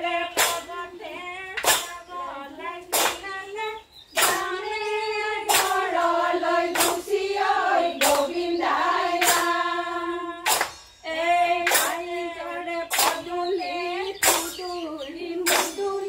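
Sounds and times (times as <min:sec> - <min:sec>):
group hand-clap: 0:00.0 - 0:16.0
women singing together: 0:00.0 - 0:16.0.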